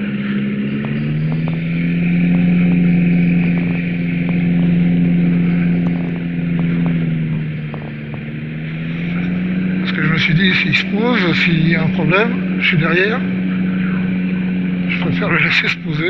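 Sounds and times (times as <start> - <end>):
ultralight engine and propeller: 0.0 - 16.0.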